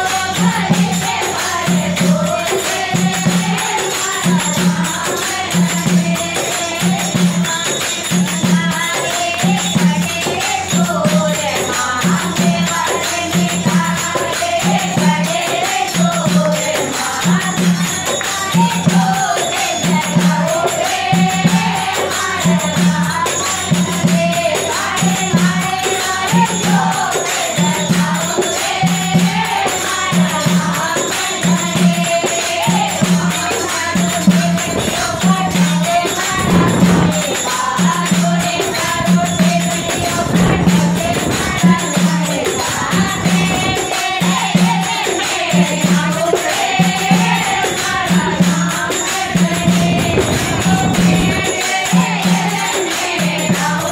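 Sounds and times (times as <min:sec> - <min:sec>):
hand drum beating: 0:00.0 - 0:53.9
jingling percussion: 0:00.0 - 0:53.9
women singing together: 0:00.0 - 0:53.9.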